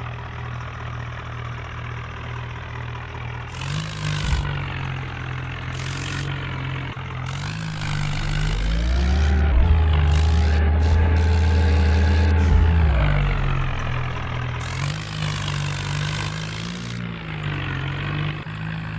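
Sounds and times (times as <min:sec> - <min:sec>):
tractor diesel engine revving: 0:03.4 - 0:18.9.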